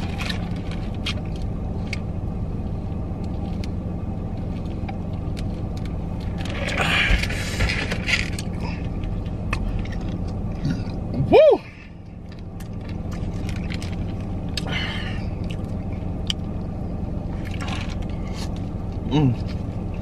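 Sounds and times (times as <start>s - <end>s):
car idling hum: 0.0s - 20.0s.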